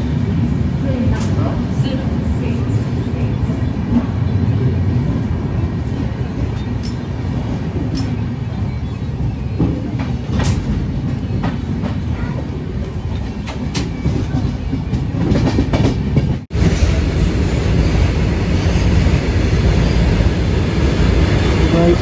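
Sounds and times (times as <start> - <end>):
train coaches rumbling: 0.0 - 22.0.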